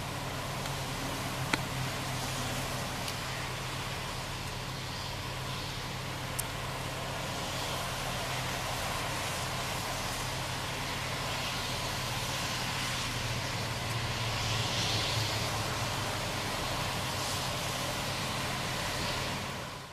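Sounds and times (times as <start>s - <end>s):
road hiss: 0.0s - 19.9s
traffic engine hum: 0.0s - 19.9s.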